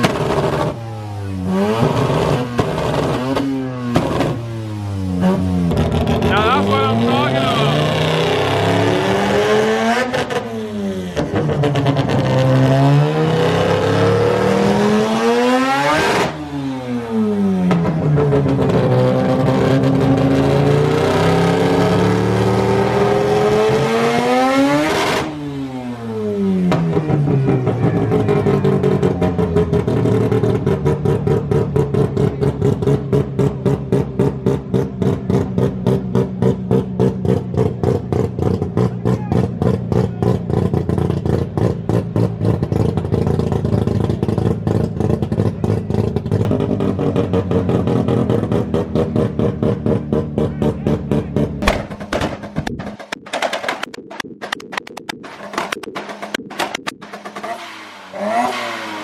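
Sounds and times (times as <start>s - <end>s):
rotary engine revving and idling: 0.0s - 59.0s.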